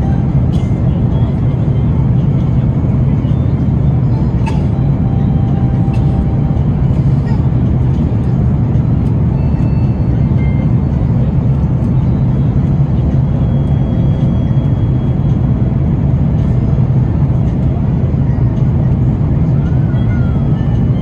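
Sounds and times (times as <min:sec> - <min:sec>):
airliner cabin roar: 0:00.0 - 0:21.0.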